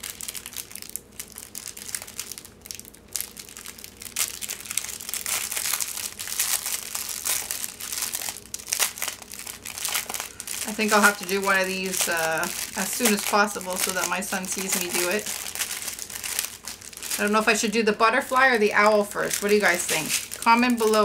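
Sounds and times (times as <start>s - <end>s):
plastic bags crinkling: 0.0s - 21.0s.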